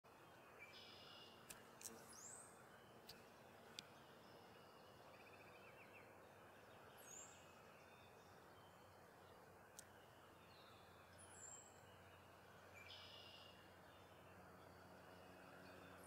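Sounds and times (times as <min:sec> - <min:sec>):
low steady hiss: 0:00.1 - 0:16.0.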